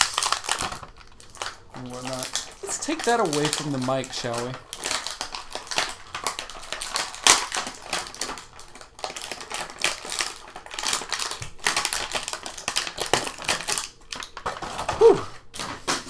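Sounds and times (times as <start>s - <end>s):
plastic packaging crinkling: 0.0s - 16.0s
sharp plastic crack: 0.0s - 16.0s.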